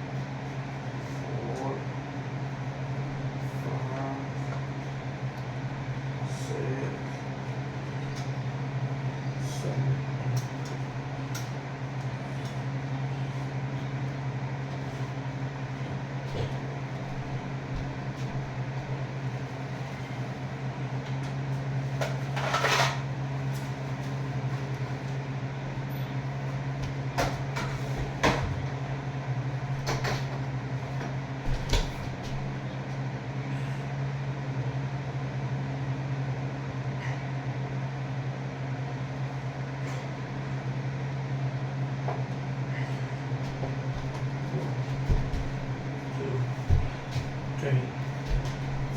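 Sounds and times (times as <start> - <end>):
low mechanical hum: 0.0 - 48.9.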